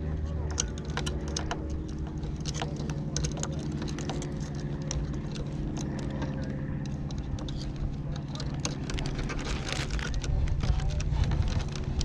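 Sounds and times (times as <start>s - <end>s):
clicks and crinkles of sail rigging: 0.0s - 12.0s
low engine hum: 0.0s - 12.0s.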